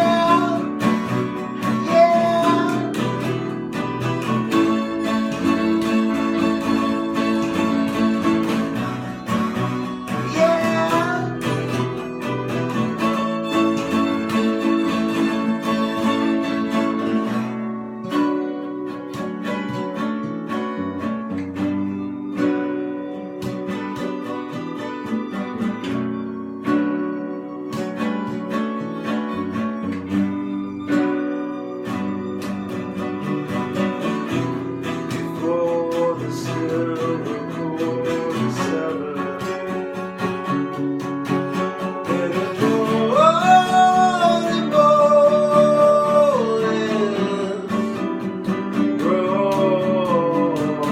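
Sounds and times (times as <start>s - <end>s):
acoustic guitar playing: 0.0s - 50.9s
higher held melody: 0.0s - 50.9s.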